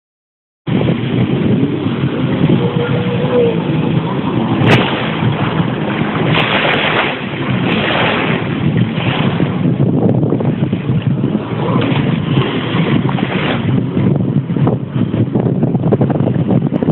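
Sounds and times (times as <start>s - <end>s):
jet ski engine: 0.7s - 16.9s
rushing water: 0.7s - 16.9s
wind on microphone: 0.7s - 16.9s.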